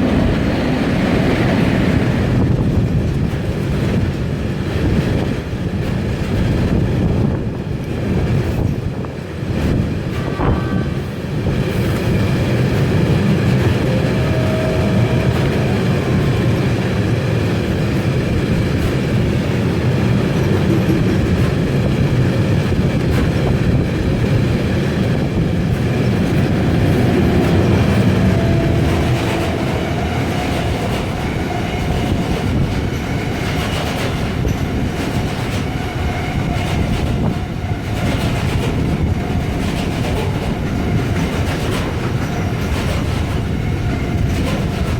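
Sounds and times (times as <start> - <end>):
train rumbling past: 0.0 - 44.9
wheel clatter on rails: 0.0 - 44.9.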